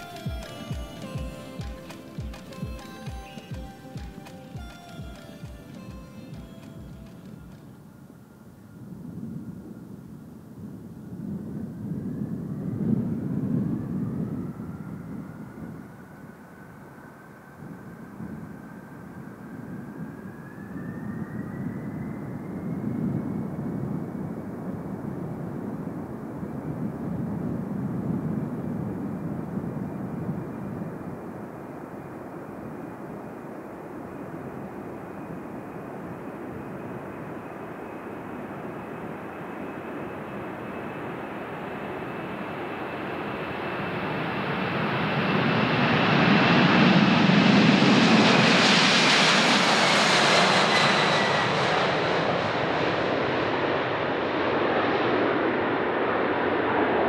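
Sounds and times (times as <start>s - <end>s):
high jet engine whine: 0.0s - 57.0s
jet engines at takeoff thrust: 0.0s - 57.0s.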